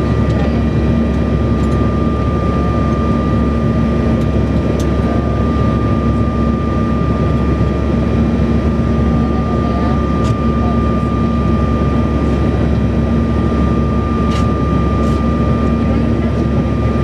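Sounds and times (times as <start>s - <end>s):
airplane cabin drone: 0.0s - 17.0s
steady whining tones: 0.0s - 17.0s.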